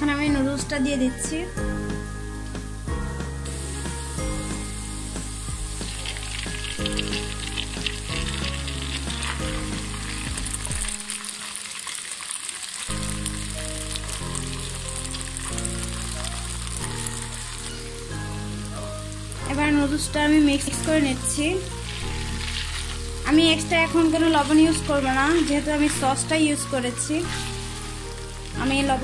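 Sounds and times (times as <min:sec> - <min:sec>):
background music: 0:00.0 - 0:11.8, 0:12.8 - 0:29.0
noodles sizzling in a wok: 0:00.0 - 0:29.0.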